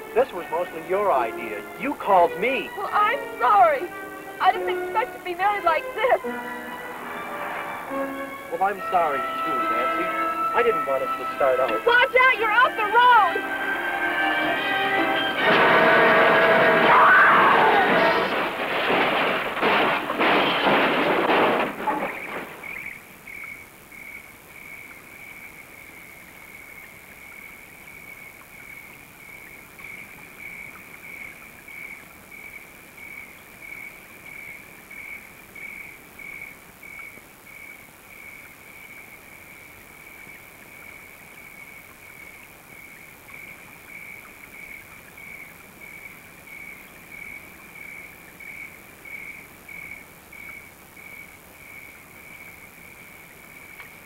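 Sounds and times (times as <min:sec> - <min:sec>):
crickets chirping: 0:00.0 - 0:54.0
faint hiss: 0:00.0 - 0:54.0.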